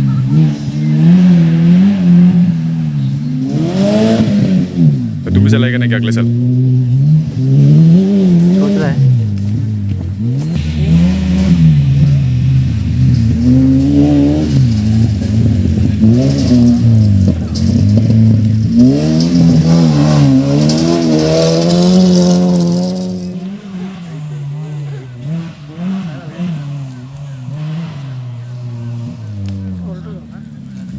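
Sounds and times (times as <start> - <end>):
low engine hum: 0.0 - 30.9
race car engines revving: 0.0 - 30.9.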